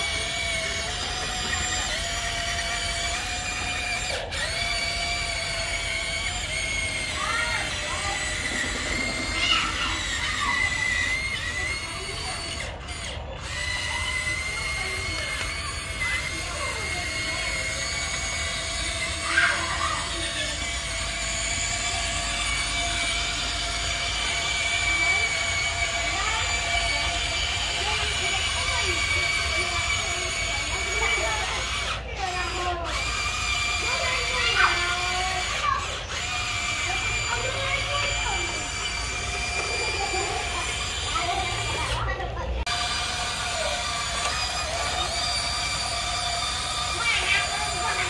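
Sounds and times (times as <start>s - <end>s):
electric motors whining: 0.0s - 48.0s.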